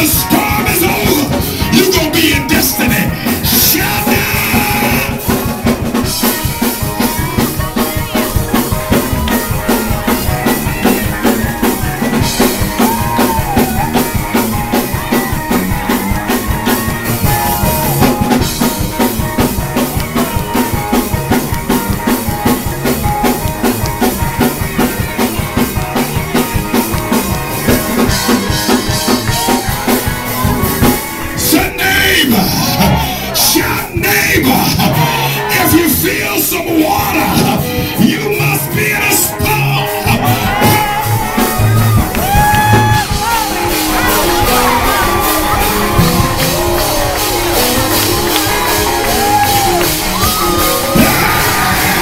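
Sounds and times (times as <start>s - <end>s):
fast drum kit beat: 0.0s - 52.0s
instruments playing: 0.0s - 52.0s.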